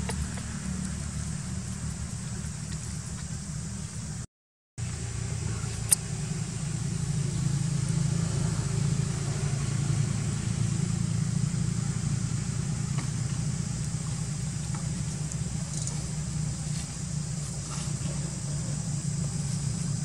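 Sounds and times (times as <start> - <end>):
low motor rumble: 0.0 - 20.0.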